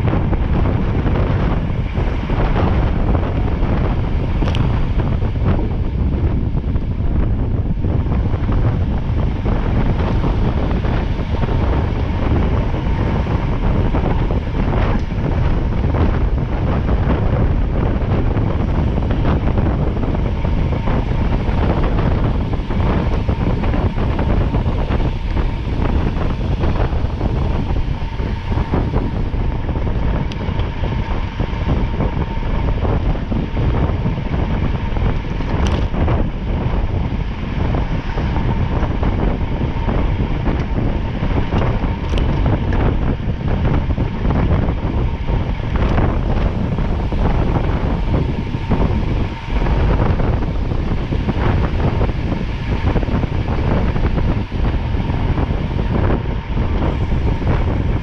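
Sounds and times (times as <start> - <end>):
vehicle rumble: 0.0 - 58.0
wind buffeting microphone: 0.0 - 58.0.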